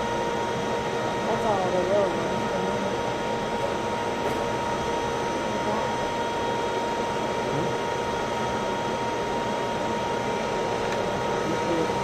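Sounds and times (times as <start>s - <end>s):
thin steady whine: 0.0s - 12.0s
ventilation fan hum: 0.0s - 12.0s.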